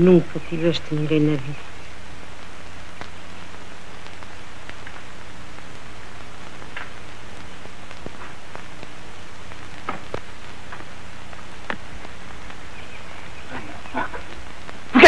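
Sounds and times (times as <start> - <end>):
low hum: 0.0 - 15.0
steady hiss: 0.0 - 15.0.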